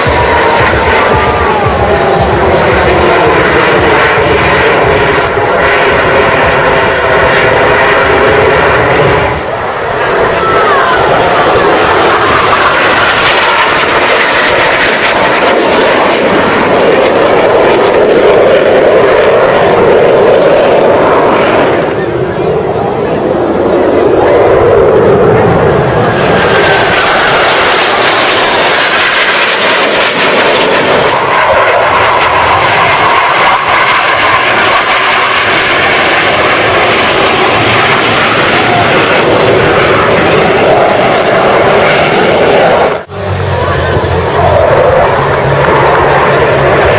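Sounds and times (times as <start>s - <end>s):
loud aircraft engine: 0.0s - 46.9s.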